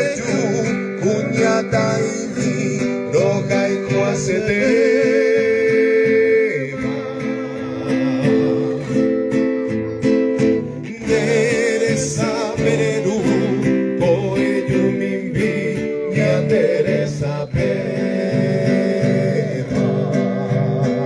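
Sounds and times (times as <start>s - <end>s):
person singing with vibrato: 0.0s - 21.0s
strummed acoustic guitar: 0.0s - 21.0s.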